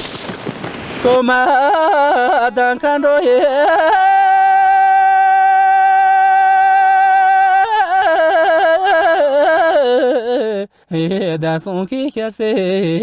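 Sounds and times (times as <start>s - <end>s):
person singing: 1.1s - 13.0s.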